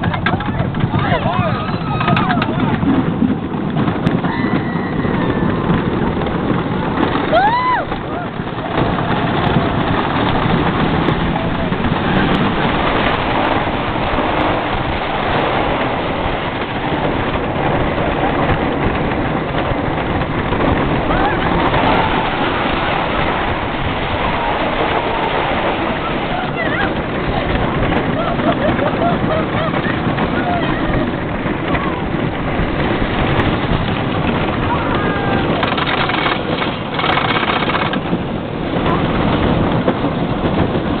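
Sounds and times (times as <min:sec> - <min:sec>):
roller coaster rumbling on track: 0:00.0 - 0:41.0
wind rushing over microphone: 0:00.0 - 0:41.0.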